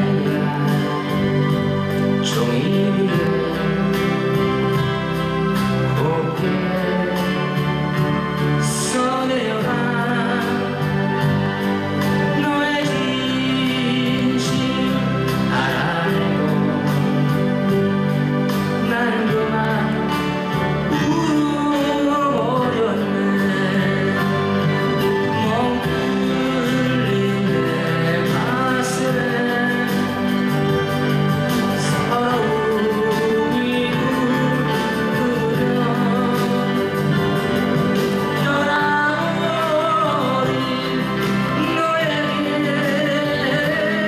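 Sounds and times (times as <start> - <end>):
acoustic guitar: 0.0 - 44.0
person singing ballad: 0.0 - 44.0
sustained backing chords: 0.0 - 44.0.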